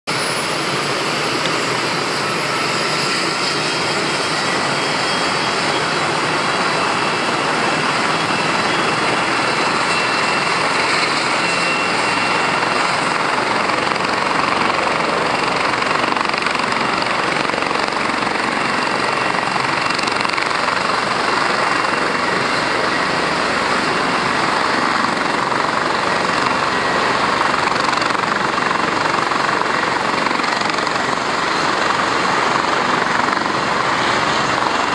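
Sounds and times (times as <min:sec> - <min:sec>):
light aircraft engine drone: 0:00.1 - 0:34.9.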